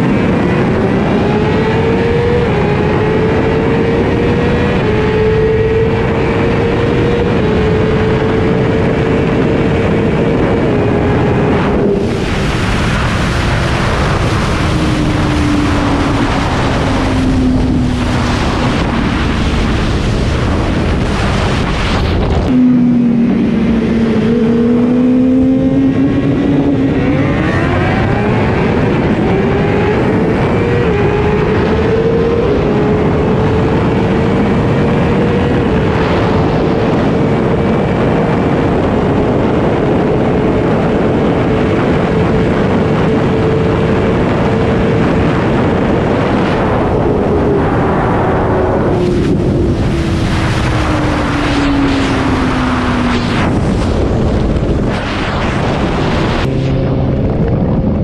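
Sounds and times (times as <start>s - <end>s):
motorcycle engine at full throttle: 0.0s - 58.0s
wind roar on microphone: 0.0s - 58.0s.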